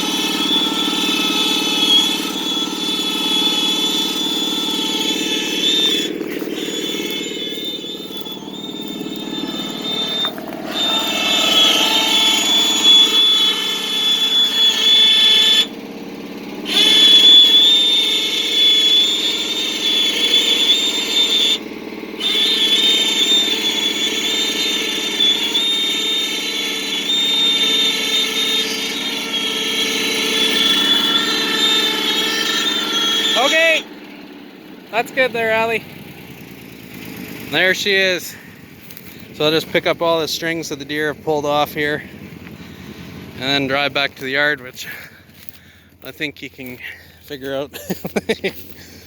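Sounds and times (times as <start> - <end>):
high-pitched hydraulic whine: 0.0 - 49.0
truck engine running under load: 0.0 - 49.0.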